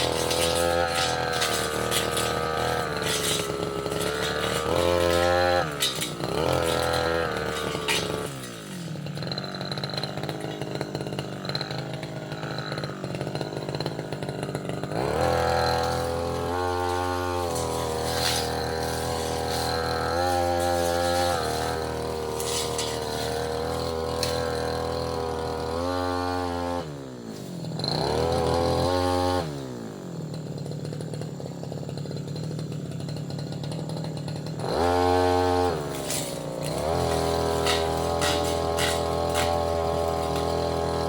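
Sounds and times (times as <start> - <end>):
brush cutter engine revving: 0.0 - 41.0.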